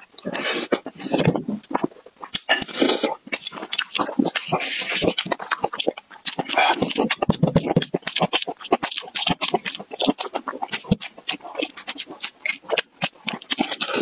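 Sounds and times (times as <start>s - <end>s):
wet chewing and slurping: 0.0s - 14.0s.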